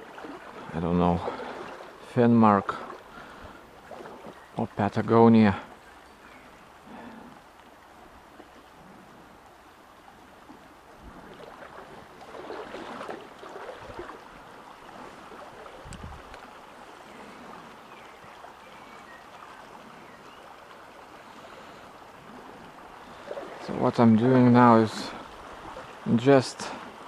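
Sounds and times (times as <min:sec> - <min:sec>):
stream running over shallows: 0:00.0 - 0:27.0.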